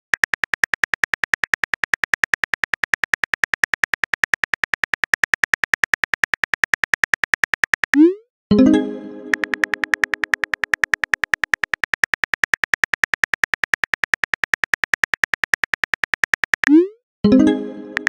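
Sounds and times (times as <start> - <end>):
phone keyboard typing clicks: 0.0 - 8.1, 9.3 - 16.8.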